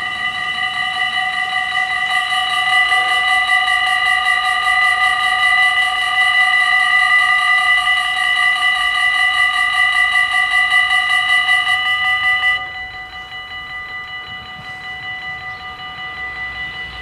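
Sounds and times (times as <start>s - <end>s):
level-crossing bells ringing: 0.0s - 17.0s.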